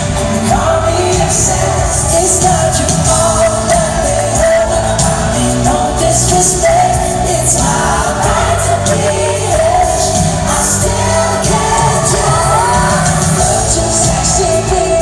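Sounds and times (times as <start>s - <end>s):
bass line and drums: 0.0s - 15.0s
live pop concert music: 0.0s - 15.0s
person singing: 0.0s - 15.0s.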